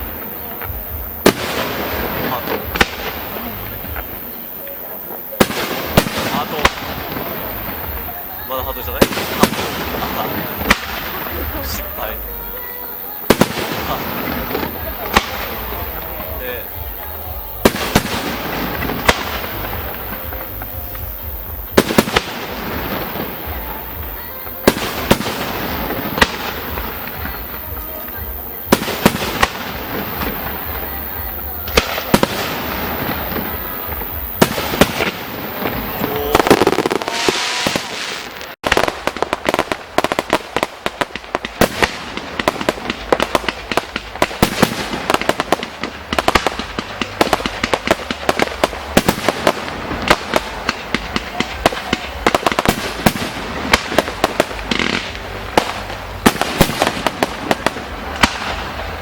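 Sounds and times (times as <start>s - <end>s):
dense fireworks crackle: 0.0s - 59.0s
fireworks shells bursting: 0.0s - 59.0s.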